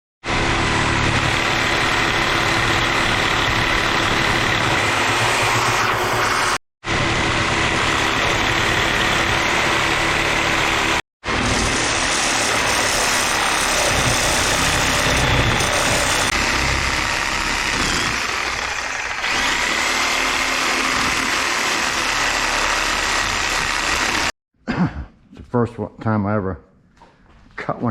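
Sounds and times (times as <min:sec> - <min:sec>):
power tool whining: 0:00.3 - 0:24.3.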